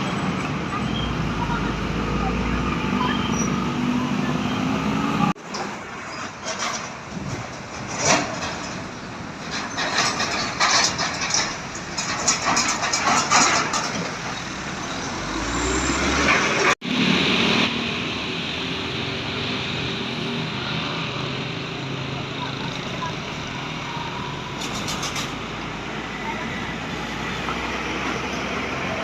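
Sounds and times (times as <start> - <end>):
bus rumbling past: 0.0 - 29.0
rough road noise: 0.0 - 29.0.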